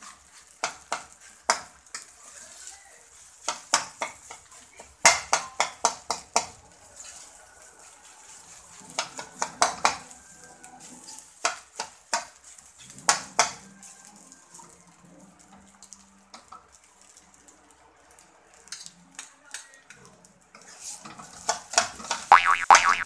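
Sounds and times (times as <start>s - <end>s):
faint sizzle: 0.0s - 23.0s.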